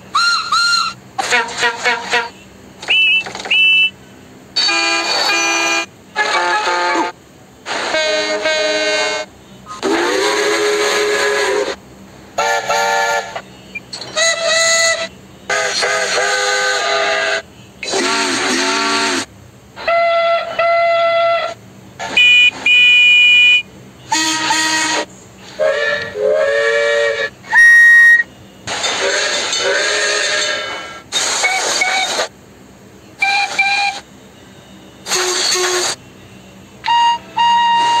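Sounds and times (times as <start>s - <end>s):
train whistle and horn blasts: 0.1s - 3.9s, 4.6s - 11.8s, 12.4s - 28.3s, 31.2s - 32.3s, 33.2s - 34.0s, 35.0s - 36.0s, 36.8s - 38.0s.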